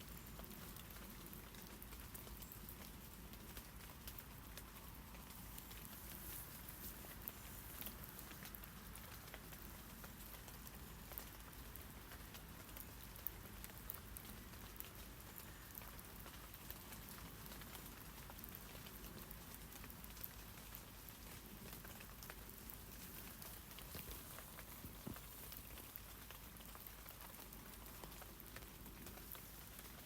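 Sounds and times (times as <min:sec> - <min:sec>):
rain falling on leaves: 0:00.0 - 0:30.0.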